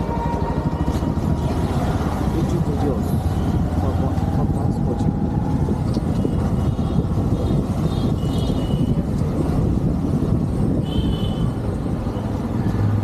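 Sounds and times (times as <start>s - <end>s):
motorcycle engine rumble: 0.0s - 13.0s
wind on microphone: 0.0s - 13.0s.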